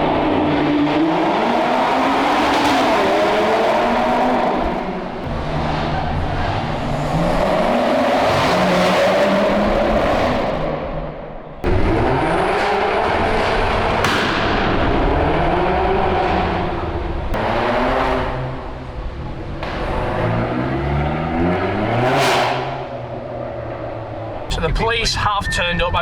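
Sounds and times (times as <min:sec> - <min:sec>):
car engines revving hard: 0:00.0 - 0:25.0.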